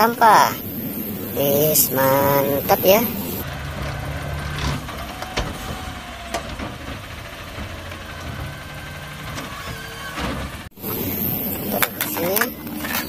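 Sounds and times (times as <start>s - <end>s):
garbage truck running: 0.0s - 13.0s
hydraulic arm lifting cart: 2.0s - 13.0s.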